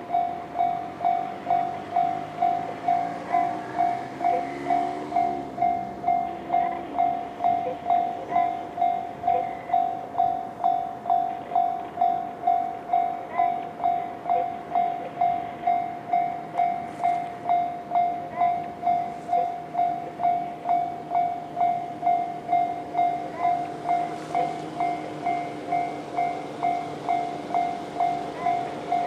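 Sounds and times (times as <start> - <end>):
level-crossing warning bell: 0.0 - 29.0.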